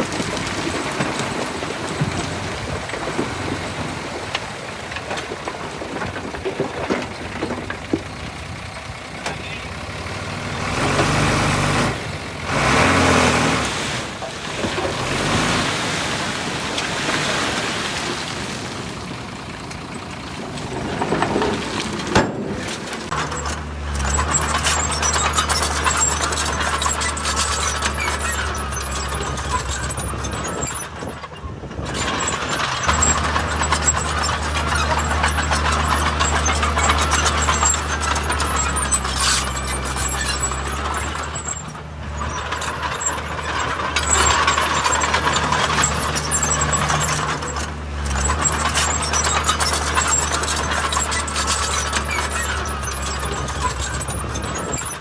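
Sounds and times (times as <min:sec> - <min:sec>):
rough clatter: 0:00.0 - 0:09.5, 0:19.5 - 0:55.0
heavy machinery diesel engines: 0:00.0 - 0:55.0.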